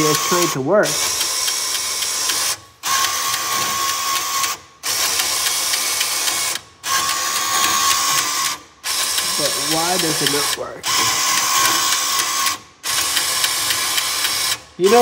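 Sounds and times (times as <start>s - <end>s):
motorised coin hopper running: 0.0s - 15.0s.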